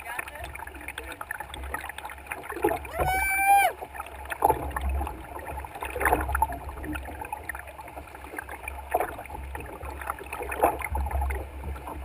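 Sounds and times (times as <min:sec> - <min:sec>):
paddle strokes in water: 0:00.0 - 0:12.0.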